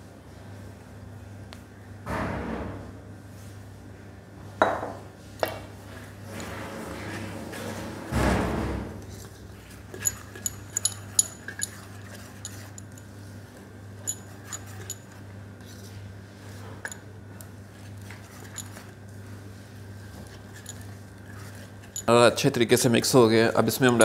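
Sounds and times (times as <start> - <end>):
steady low hum: 2.9 - 24.0.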